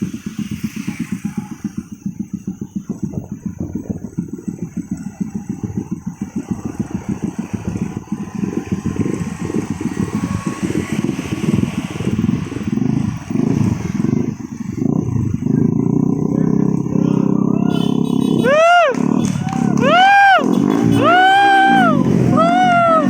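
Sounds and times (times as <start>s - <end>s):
motorcycle engine throbbing: 0.0s - 23.0s.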